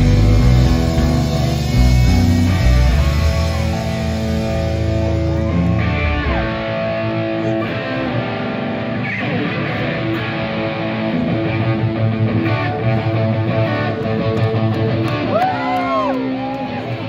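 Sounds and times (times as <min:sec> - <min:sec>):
electric guitar with bent notes: 0:00.0 - 0:17.0
live rock band: 0:00.0 - 0:17.0.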